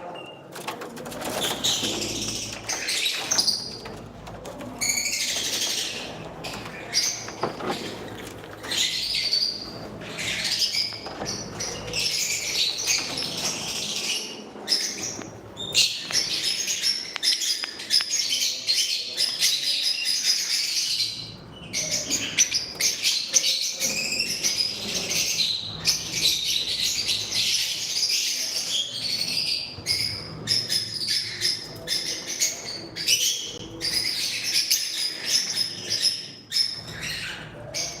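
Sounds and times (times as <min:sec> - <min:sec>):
parrots chattering and chirping: 0:01.2 - 0:38.0.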